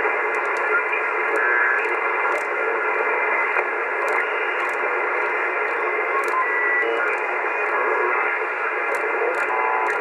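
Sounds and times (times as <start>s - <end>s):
shortwave radio static: 0.0s - 10.0s.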